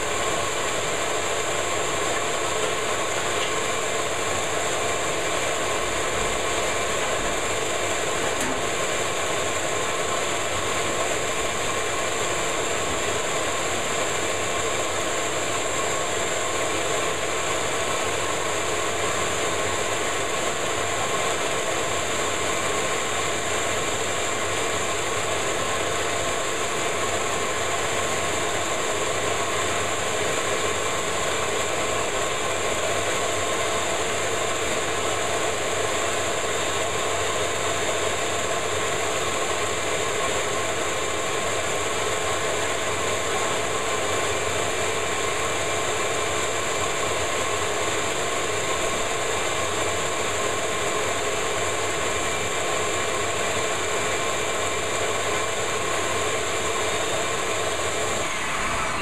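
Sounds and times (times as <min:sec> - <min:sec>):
shop vacuum motor running: 0:00.0 - 0:59.0.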